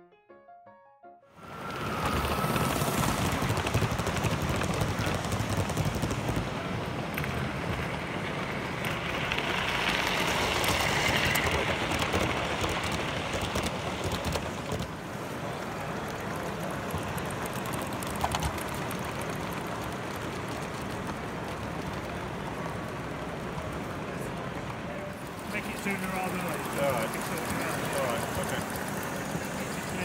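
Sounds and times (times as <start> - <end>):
model train wheels clattering: 1.6 - 30.0.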